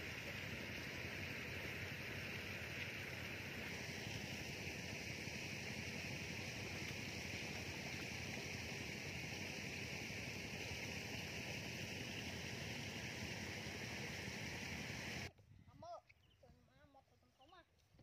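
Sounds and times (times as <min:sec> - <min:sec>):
outdoor ambient hiss: 0:00.0 - 0:17.9.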